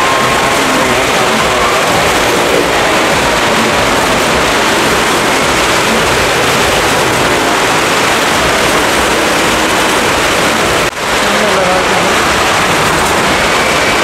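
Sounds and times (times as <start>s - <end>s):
motorcycle and car engines revving: 0.0s - 14.0s.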